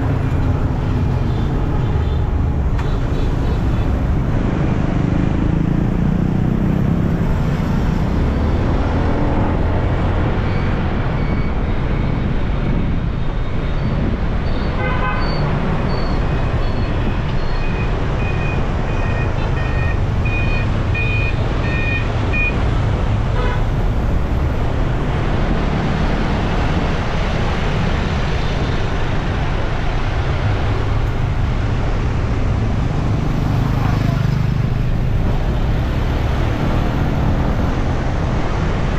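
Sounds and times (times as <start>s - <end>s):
motorbike engine and wind rumble: 0.0s - 38.9s.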